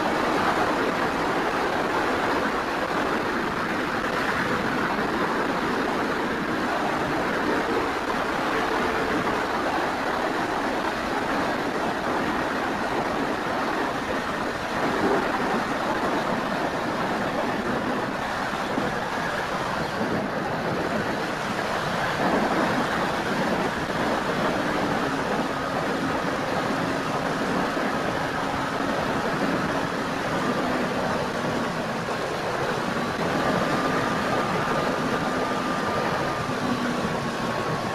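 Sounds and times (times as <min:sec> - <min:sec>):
faint motor and propeller tone: 0:00.0 - 0:37.9
wind rushing over microphone: 0:00.0 - 0:37.9.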